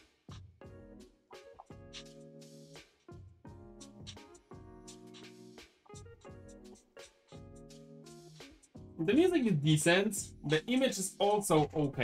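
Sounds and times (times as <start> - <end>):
held chords music: 0.0 - 12.0.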